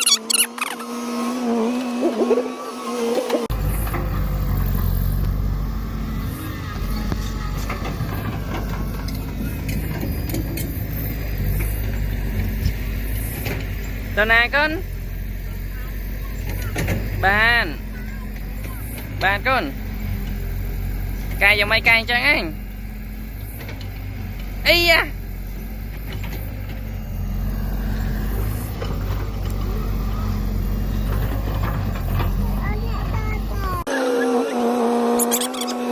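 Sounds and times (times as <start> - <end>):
excavator engine rumbling: 3.3 - 33.9.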